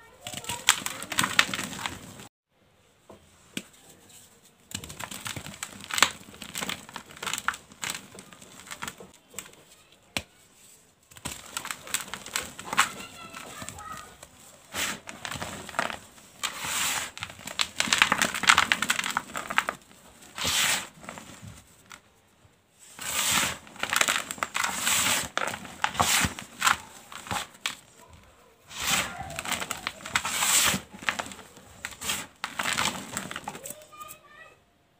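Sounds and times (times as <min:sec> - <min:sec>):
fingers crushing chalk powder: 0:00.0 - 0:02.2, 0:03.5 - 0:22.0, 0:22.9 - 0:34.2.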